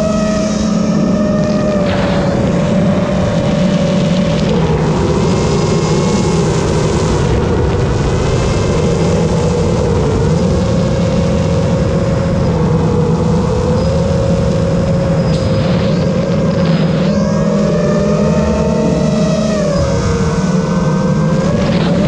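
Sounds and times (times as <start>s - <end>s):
drone motors buzzing: 0.0s - 22.0s
wind noise: 0.0s - 22.0s.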